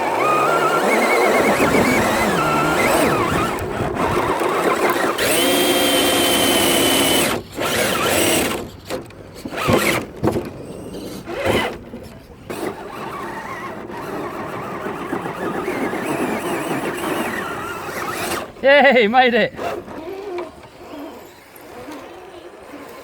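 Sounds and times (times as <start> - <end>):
rc car motor whining: 0.0 - 11.8, 12.4 - 18.6, 19.3 - 23.0.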